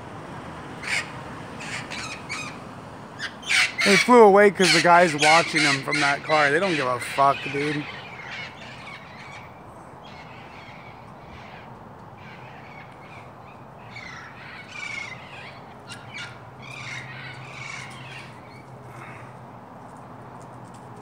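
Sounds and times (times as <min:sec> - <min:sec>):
parrots squawking: 0:00.8 - 0:02.6, 0:03.2 - 0:19.2.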